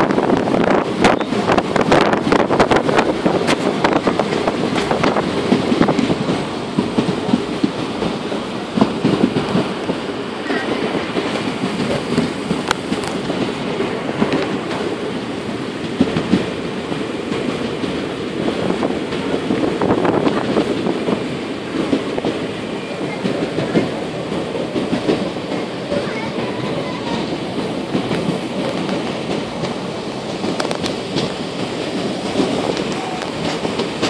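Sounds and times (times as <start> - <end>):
track clicks and knocks: 0.0 - 34.0
train wheels rumbling on rails: 0.0 - 34.0.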